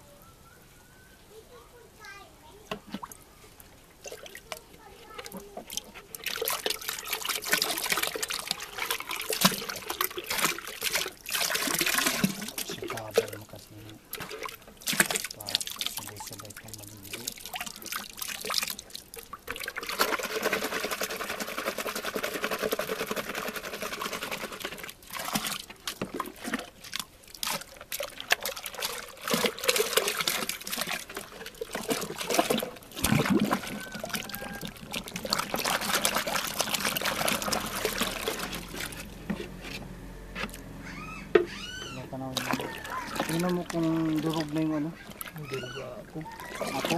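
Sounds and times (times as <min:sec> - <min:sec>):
liquid splashing in metal basin: 0:04.0 - 0:39.4, 0:41.3 - 0:46.9.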